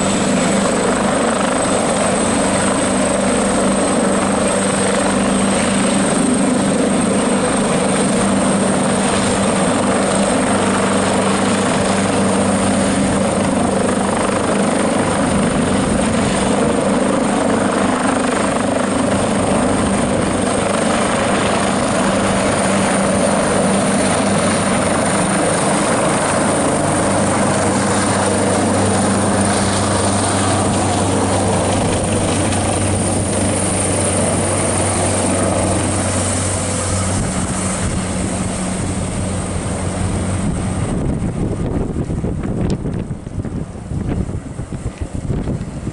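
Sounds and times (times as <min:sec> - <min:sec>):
helicopter rotor drone: 0:00.0 - 0:45.9
high turbine whine: 0:00.0 - 0:45.9.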